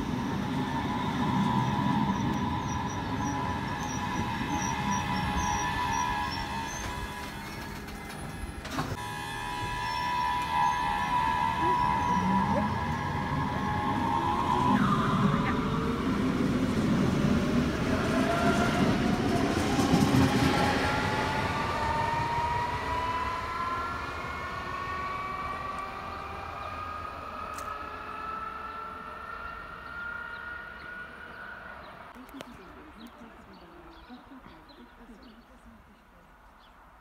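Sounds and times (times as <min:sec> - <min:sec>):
traction motor whine: 0:00.0 - 0:32.4
wheels rumbling on rail: 0:00.0 - 0:36.3.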